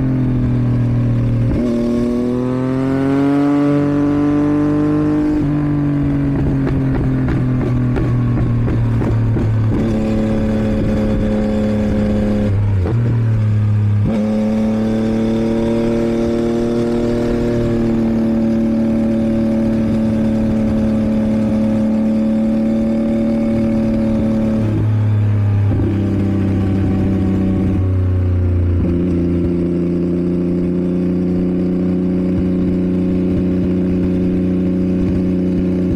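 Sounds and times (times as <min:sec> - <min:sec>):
motorcycle engine changing gears: 0:00.0 - 0:35.9.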